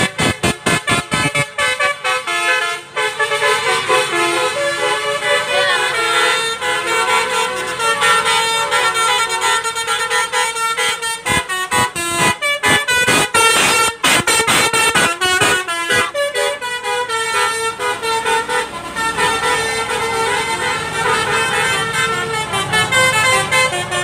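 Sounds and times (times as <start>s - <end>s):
multi-tone bus air horn tune: 0.0s - 24.0s.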